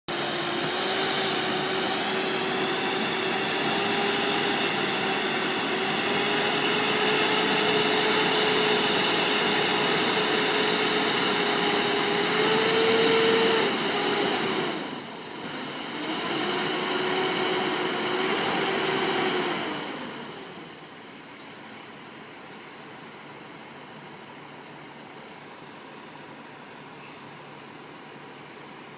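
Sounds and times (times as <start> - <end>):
refuse truck mechanical whine: 0.1 - 28.9.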